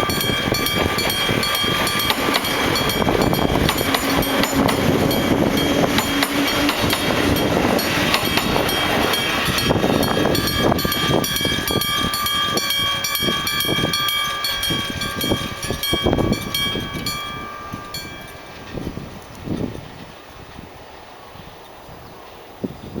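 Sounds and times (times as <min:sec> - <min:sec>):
crossing warning bell ringing: 0:00.0 - 0:20.1
train wheels clattering: 0:00.0 - 0:20.6.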